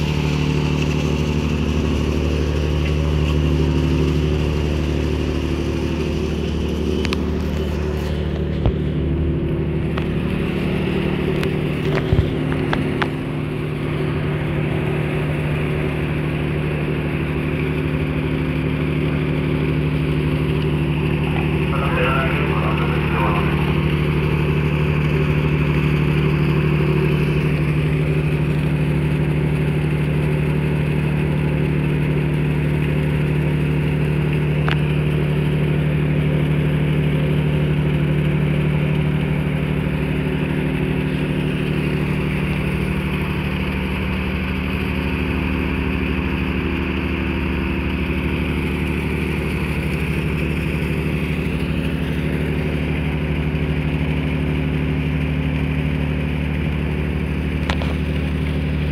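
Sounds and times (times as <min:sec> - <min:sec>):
ship diesel engine drone: 0:00.0 - 0:58.9.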